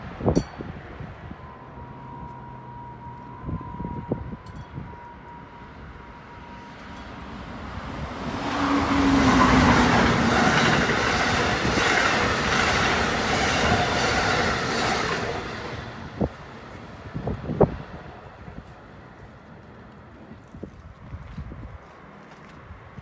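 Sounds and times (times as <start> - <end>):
passenger train passing: 0.0 - 21.1.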